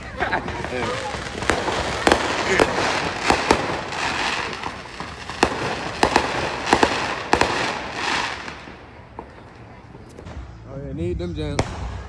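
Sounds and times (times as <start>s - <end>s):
fireworks crackling hiss: 0.0s - 10.3s
fireworks bangs: 0.0s - 10.6s, 11.4s - 12.0s.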